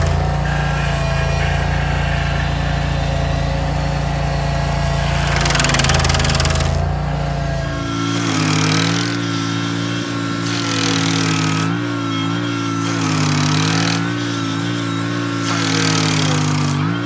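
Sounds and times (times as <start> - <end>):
cutter wheel biting: 0.0 - 17.0
stump grinder engine running: 0.0 - 17.0.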